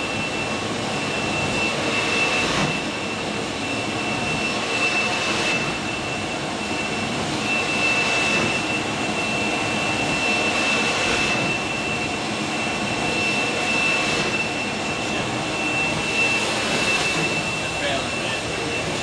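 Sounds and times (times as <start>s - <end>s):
high-pitched machine whine: 0.0s - 19.0s
machine and air rushing noise: 0.0s - 19.0s.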